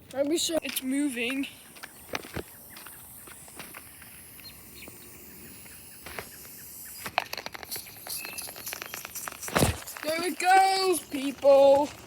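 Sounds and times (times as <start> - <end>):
faint outdoor background noise: 0.0 - 12.0
high bird chirps: 0.4 - 11.4.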